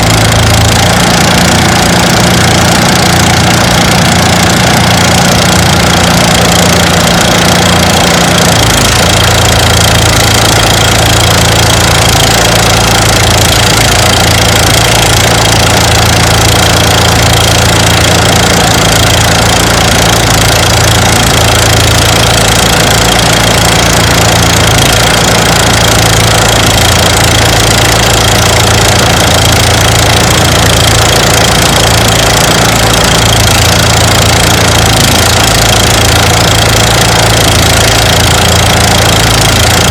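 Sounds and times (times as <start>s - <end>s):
threshing machine engine drone: 0.0s - 39.9s.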